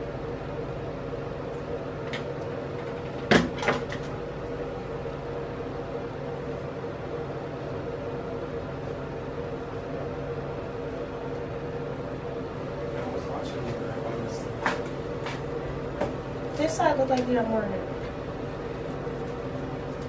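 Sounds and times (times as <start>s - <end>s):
ventilation machine hum: 0.0s - 20.0s.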